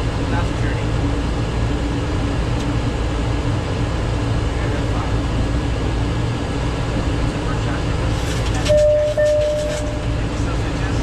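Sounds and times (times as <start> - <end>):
airliner cockpit airflow and engines: 0.0 - 11.0.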